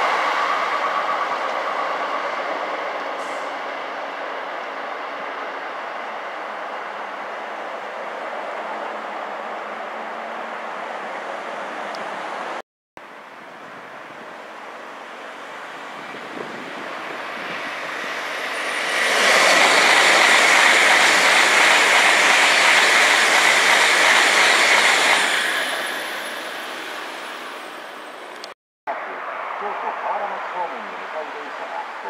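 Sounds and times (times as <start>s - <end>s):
bullet train passing at speed: 0.0s - 32.0s.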